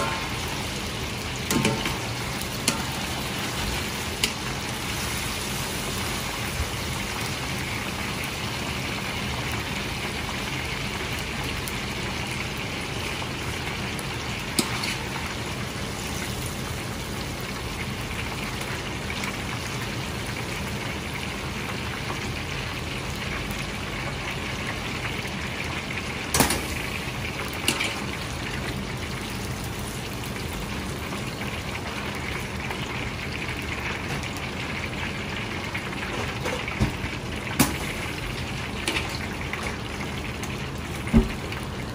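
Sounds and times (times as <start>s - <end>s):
chicken deep-frying in oil: 0.0s - 41.9s.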